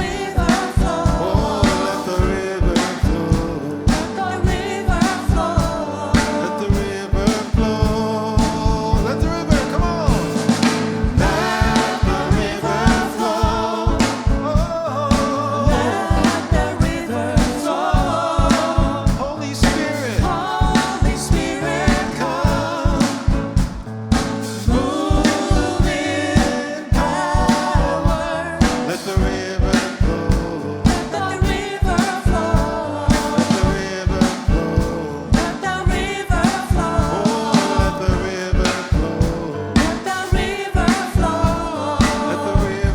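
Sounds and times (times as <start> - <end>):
drum kit beat: 0.0 - 42.9
gospel band playing: 0.0 - 42.9
person singing: 0.0 - 42.9.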